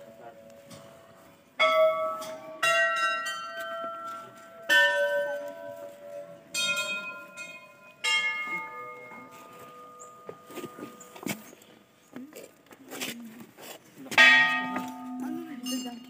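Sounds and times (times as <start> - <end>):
temple bells ringing: 0.0 - 11.3, 14.1 - 16.0.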